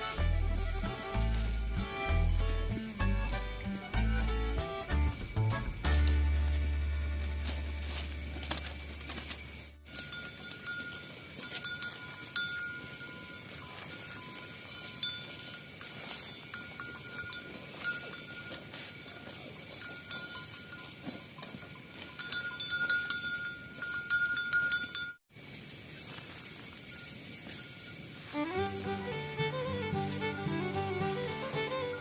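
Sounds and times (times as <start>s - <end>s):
livestock bells clanking: 0.0s - 8.0s, 9.9s - 25.2s, 26.8s - 32.0s.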